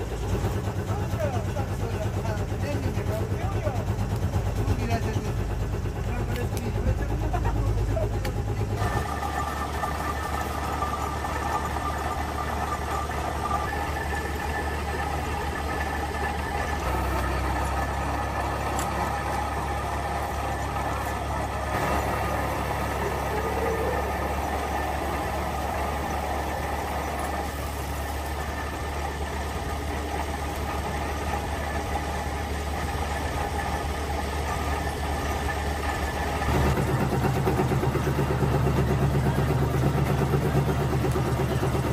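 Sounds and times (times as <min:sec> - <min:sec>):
machinery low drone: 0:00.0 - 0:41.9.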